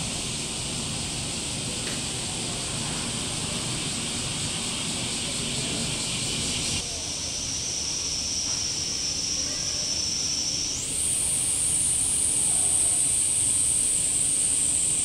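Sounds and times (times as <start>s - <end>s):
cicadas droning: 0.0s - 15.0s.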